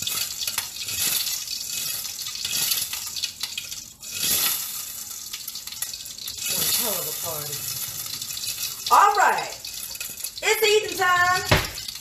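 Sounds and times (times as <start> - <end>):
hot oil sizzling and spattering: 0.0 - 12.0.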